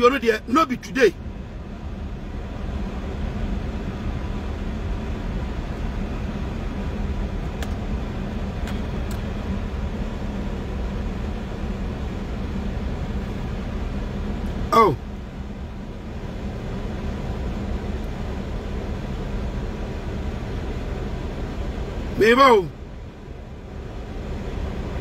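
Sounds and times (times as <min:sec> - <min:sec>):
faint constant hum: 0:00.0 - 0:25.0
low background rumble: 0:00.0 - 0:25.0.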